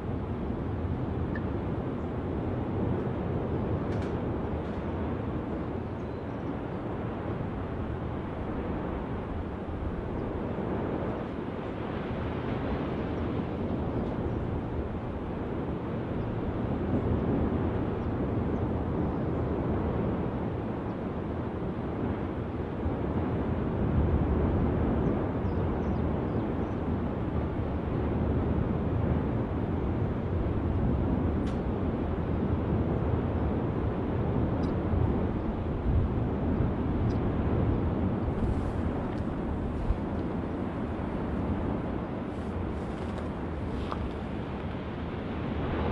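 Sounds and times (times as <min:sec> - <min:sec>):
volcanic eruption roar: 0:06.7 - 0:45.9.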